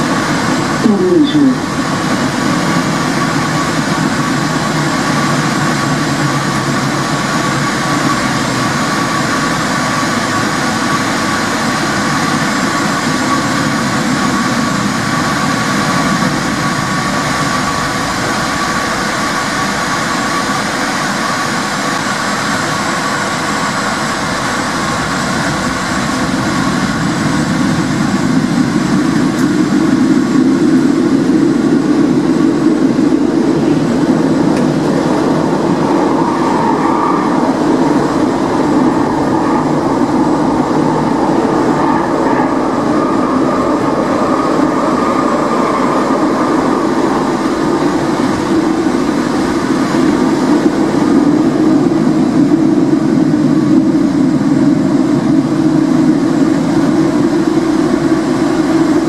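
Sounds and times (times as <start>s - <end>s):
high whine: 0.0s - 59.0s
train rumbling through tunnel: 0.0s - 59.0s.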